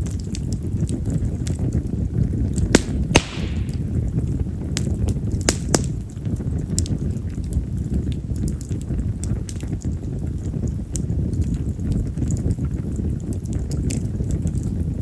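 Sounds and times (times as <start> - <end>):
firewood crackling and popping: 0.0 - 15.0
low rush of flame: 0.0 - 15.0.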